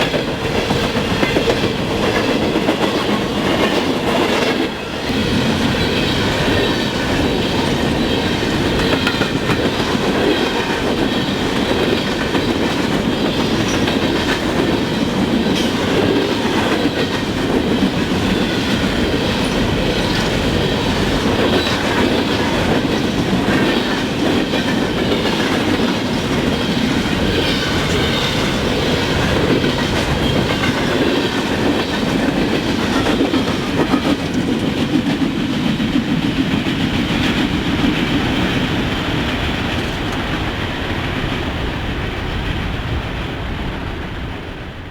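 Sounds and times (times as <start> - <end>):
steel wheels rumbling on rail: 0.0 - 44.9.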